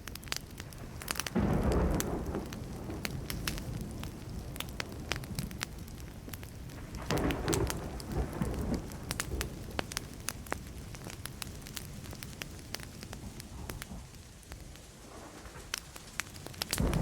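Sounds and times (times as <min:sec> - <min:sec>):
wood fire crackling: 0:00.0 - 0:17.0
distant thunder rumble: 0:00.6 - 0:14.4, 0:15.0 - 0:17.0.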